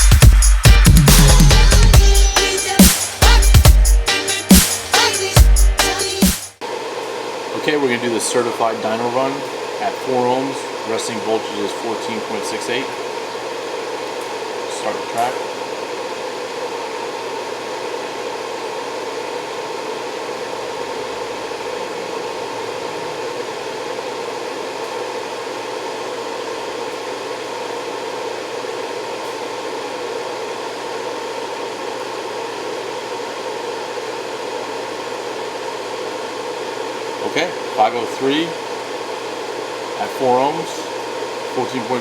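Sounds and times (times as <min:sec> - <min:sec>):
fan whirring: 0:00.0 - 0:42.0.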